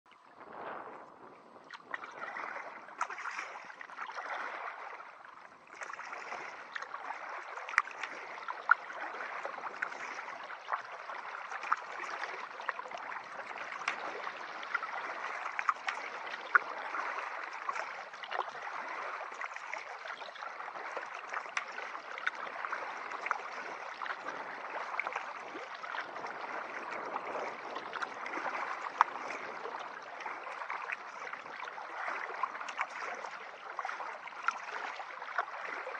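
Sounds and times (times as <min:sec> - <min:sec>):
water splashing and gurgling: 0:00.1 - 0:35.9
small sharp splashes: 0:01.6 - 0:35.9.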